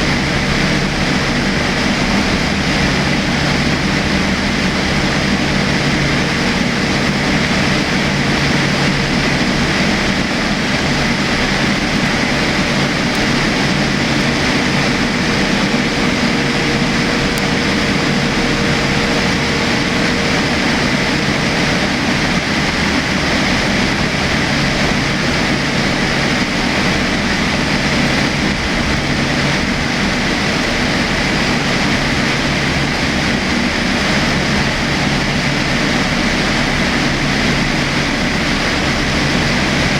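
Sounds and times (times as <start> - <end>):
airliner cabin airflow and engine drone: 0.0 - 39.9.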